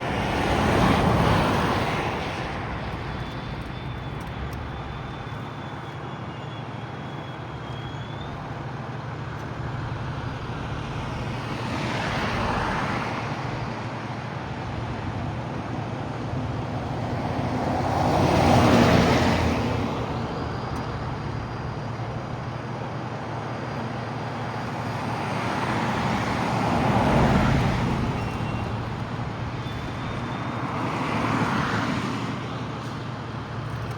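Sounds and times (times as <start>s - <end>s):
road traffic: 0.0s - 33.9s
vehicles passing: 0.0s - 33.9s.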